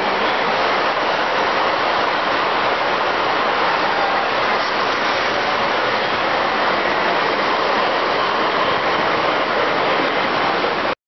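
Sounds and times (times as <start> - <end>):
model train wheels rushing: 0.0 - 10.7.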